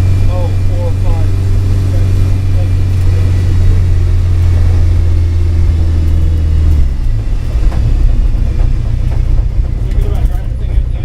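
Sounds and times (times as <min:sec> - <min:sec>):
car engine droning: 0:00.0 - 0:11.0
uneven rumble with knocks: 0:00.0 - 0:11.0.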